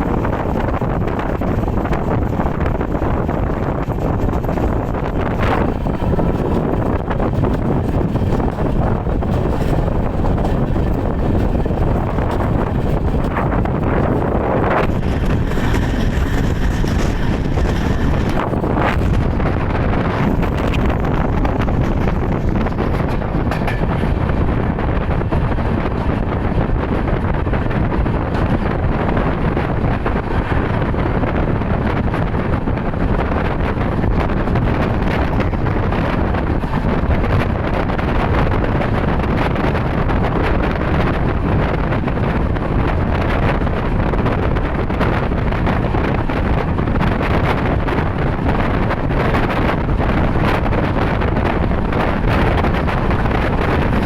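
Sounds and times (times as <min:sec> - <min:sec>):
vehicle running: 0:00.0 - 0:54.0
wind buffeting microphone: 0:00.0 - 0:54.0.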